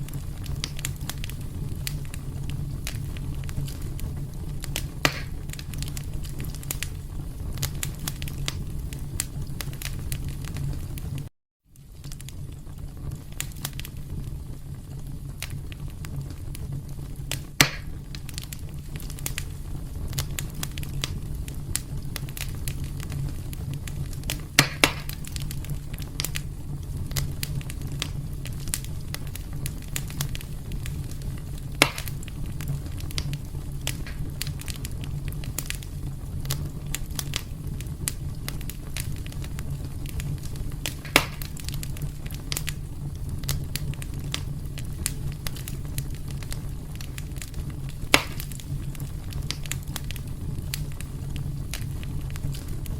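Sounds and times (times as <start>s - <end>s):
fire crackling and popping: 0.0s - 52.9s
fire flames rumbling: 0.0s - 52.9s.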